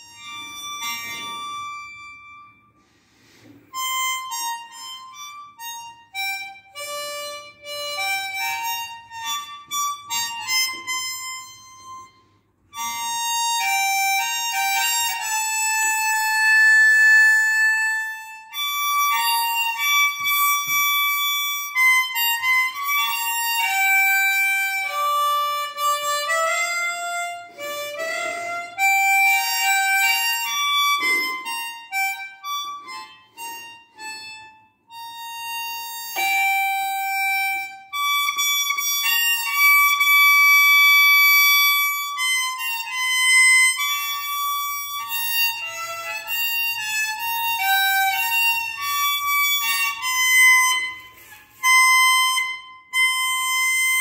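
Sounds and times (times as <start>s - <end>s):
harmonica melody: 0.0s - 54.0s.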